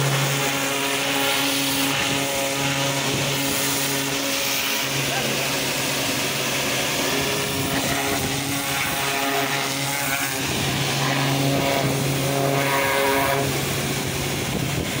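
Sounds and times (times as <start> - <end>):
droning hum: 0.0 - 15.0
pressure washer water jet hiss: 0.0 - 15.0.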